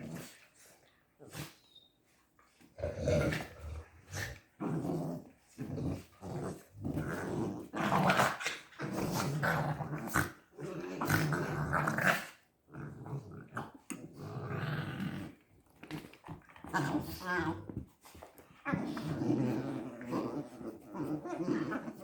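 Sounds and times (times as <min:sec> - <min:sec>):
puppies growling: 0:02.6 - 0:22.0.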